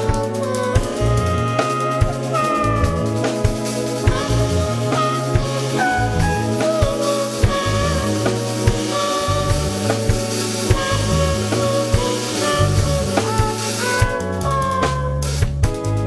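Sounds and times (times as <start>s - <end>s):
slowed instrumental music: 0.0s - 16.0s.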